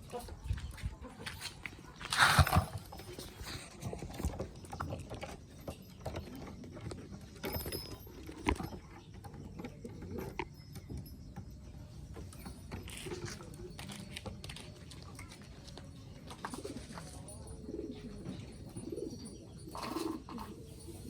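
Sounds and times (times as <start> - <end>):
pigeons pecking at corn: 1.1 - 21.0.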